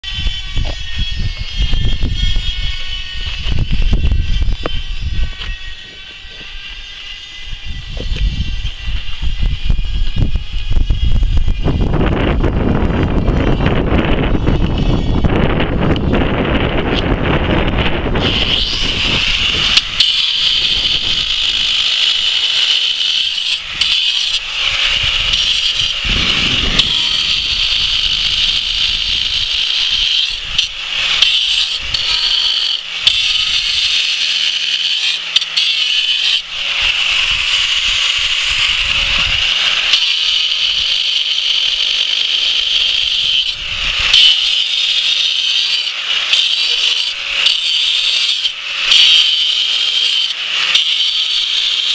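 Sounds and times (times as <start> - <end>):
angle grinder cutting stone: 0.0 - 51.9.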